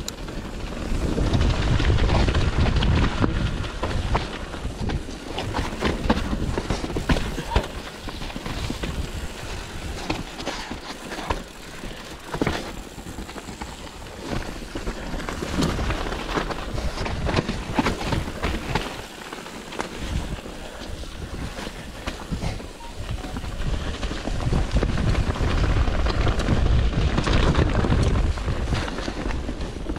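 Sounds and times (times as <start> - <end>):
bike chain and frame rattling: 0.0 - 29.9
bike tyres crunching over gravel: 0.0 - 29.9
wind rumbling on microphone: 0.0 - 29.9.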